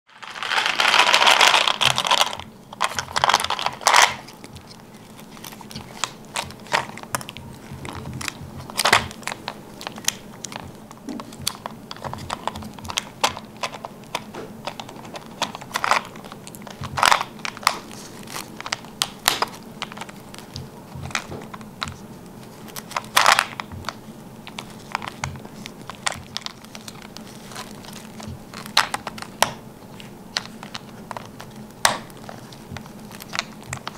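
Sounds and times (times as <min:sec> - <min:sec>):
crinkly plastic rustles: 0:00.1 - 0:33.9
monkey gnawing plastic toy: 0:00.1 - 0:33.9.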